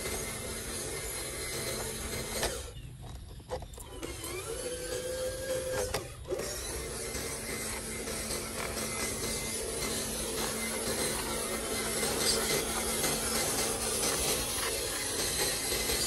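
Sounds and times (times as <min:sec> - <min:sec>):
model truck motor whirring: 0:00.0 - 0:16.0.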